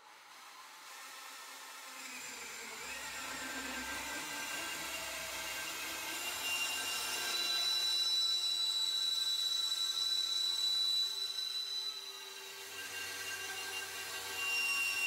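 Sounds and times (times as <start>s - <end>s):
drill and bandsaw blade whining: 0.1s - 15.0s.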